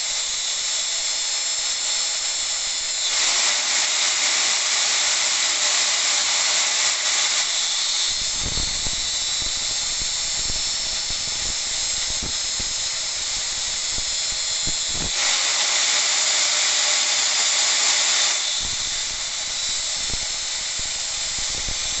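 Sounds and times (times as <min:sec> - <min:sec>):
angle grinder grinding steel: 0:00.0 - 0:22.0.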